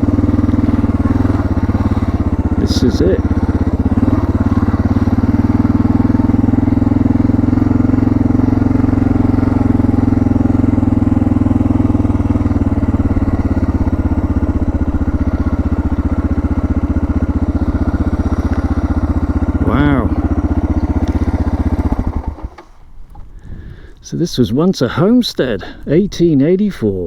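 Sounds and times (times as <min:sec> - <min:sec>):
single-cylinder engine running: 0:00.0 - 0:23.8.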